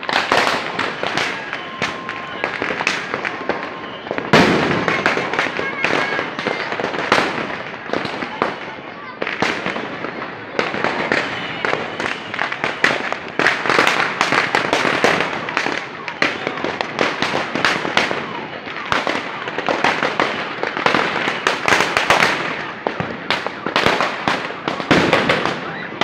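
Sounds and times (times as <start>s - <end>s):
firecrackers banging: 0.0s - 26.0s.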